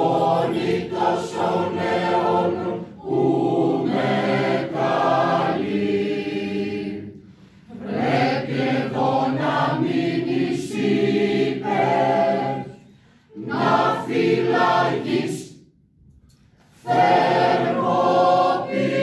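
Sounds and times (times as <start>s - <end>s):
mixed choir singing a cappella: 0.0s - 15.7s, 16.7s - 19.0s.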